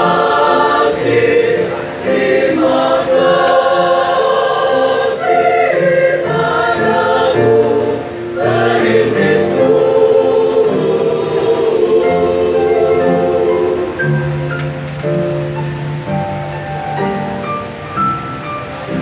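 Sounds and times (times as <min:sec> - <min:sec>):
choir singing in parts: 0:00.0 - 0:15.7.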